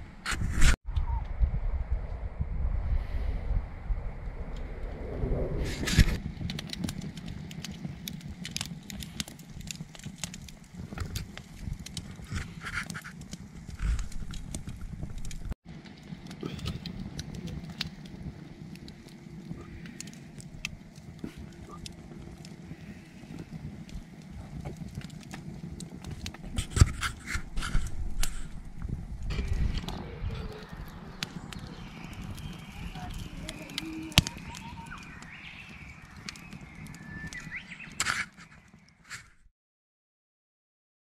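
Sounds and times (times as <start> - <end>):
fire crackling and popping: 0.0 - 2.2, 3.7 - 39.4
fire low rumble: 0.1 - 39.0.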